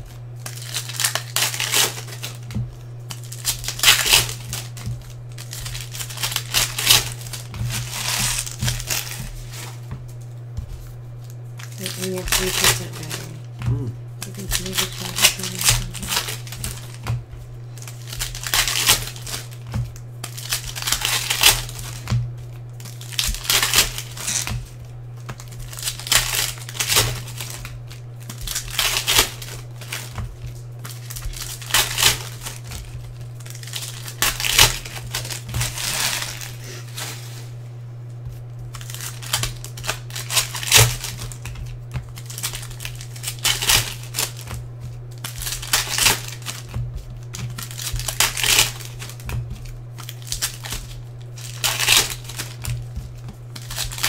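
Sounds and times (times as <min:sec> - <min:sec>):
foil wrappers tearing and crinkling: 0:00.0 - 0:37.6, 0:38.4 - 0:54.0
steady low hum: 0:00.0 - 0:54.0.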